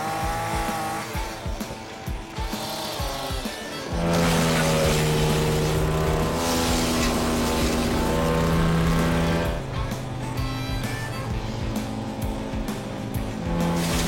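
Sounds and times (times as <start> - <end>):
chainsaw at high revs: 0.0 - 14.0.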